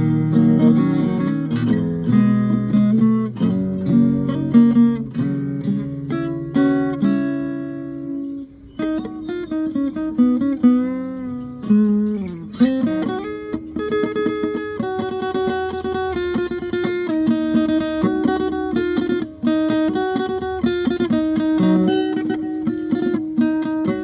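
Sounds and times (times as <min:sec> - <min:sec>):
electric guitar playing: 0:00.0 - 0:24.0.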